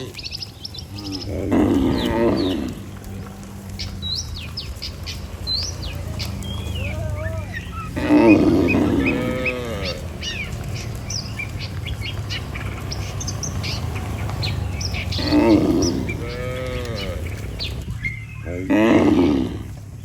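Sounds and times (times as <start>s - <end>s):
small birds chirping: 0.0s - 20.0s
cattle mooing: 0.9s - 19.8s.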